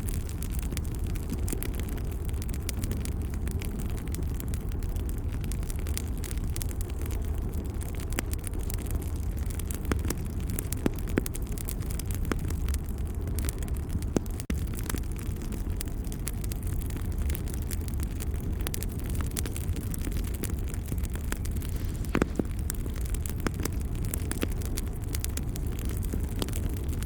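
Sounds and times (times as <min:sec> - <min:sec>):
fire popping and snapping: 0:00.0 - 0:27.0
wood fire crackling: 0:00.0 - 0:27.0.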